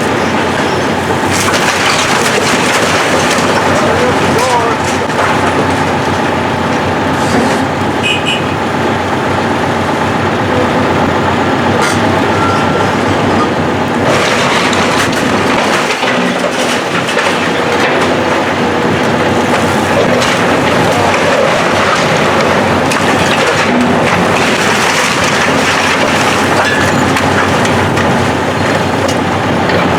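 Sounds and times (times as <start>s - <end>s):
debris crunching and clattering: 0.0s - 7.9s, 13.0s - 29.9s
demolition machine engine rumble: 0.0s - 29.9s.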